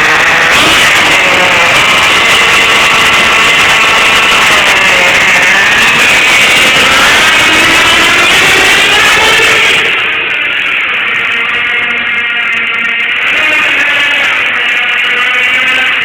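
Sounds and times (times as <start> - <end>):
small nitro engine buzzing: 0.0 - 16.0.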